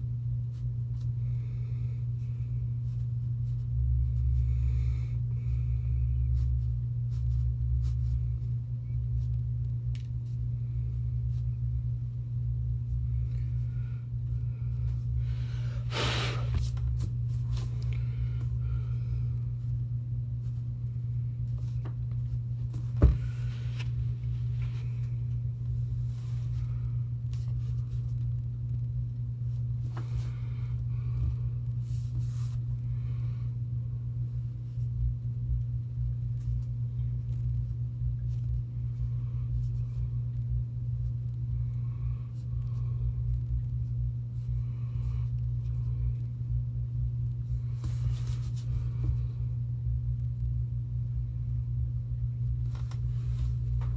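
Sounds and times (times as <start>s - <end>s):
deep rumble: 0.0s - 53.9s
steady low hum: 0.0s - 53.9s.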